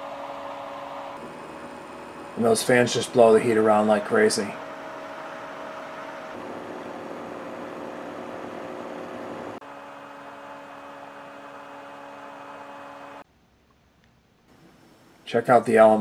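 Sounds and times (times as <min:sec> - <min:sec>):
stove fan humming: 0:00.0 - 0:13.2.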